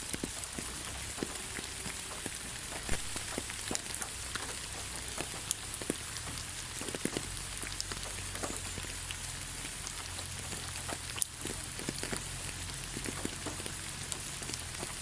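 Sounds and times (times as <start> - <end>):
light rain hissing: 0.0 - 15.0
raindrops ticking: 0.0 - 15.0.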